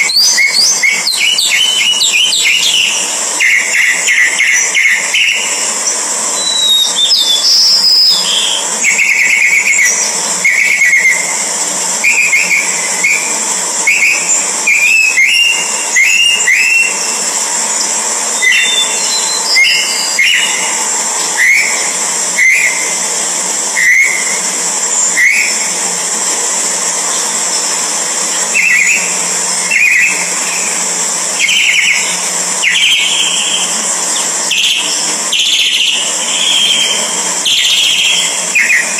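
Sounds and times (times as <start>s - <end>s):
thrush chirping calls: 0.0s - 23.0s, 28.5s - 38.9s.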